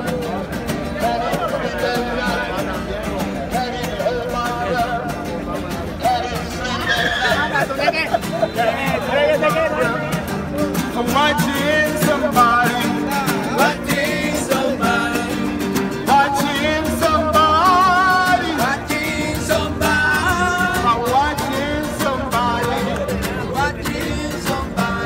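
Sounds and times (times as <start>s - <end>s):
acoustic guitars strumming: 0.0s - 25.0s
man singing: 0.8s - 7.9s, 8.5s - 25.0s.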